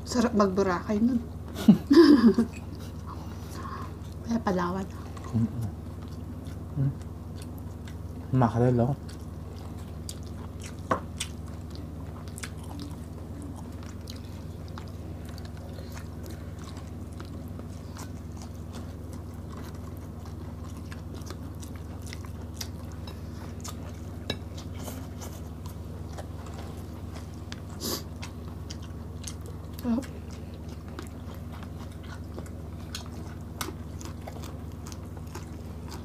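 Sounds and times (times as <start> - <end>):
people chewing and eating: 1.4 - 36.0.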